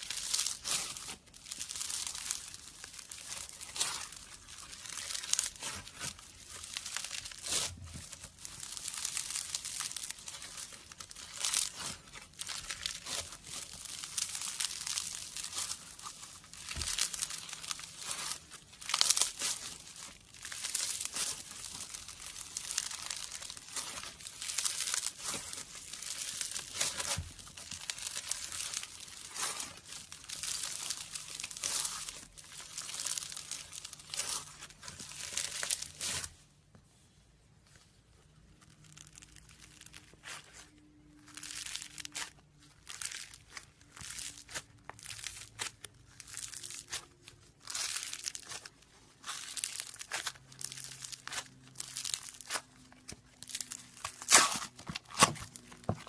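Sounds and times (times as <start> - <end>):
foam-bead slime crackling: 0.0 - 36.8, 37.6 - 56.0.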